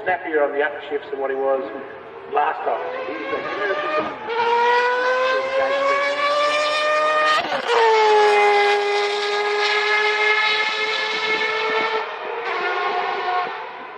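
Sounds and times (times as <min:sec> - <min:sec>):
race car engine at high revs: 0:01.8 - 0:13.9.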